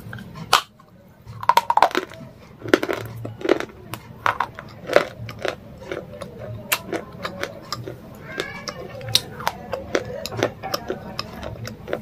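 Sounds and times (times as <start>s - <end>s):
person chewing and swallowing: 0.0s - 12.0s.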